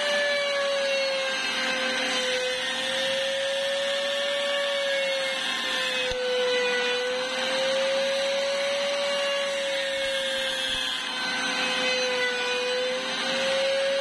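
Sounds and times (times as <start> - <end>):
electric sander motor whine: 0.0 - 14.0
wood being sanded: 0.0 - 14.0.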